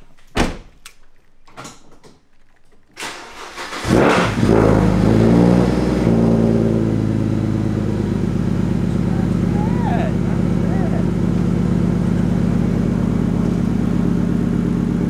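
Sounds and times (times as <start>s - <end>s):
car engine starting and idling: 2.3s - 15.0s.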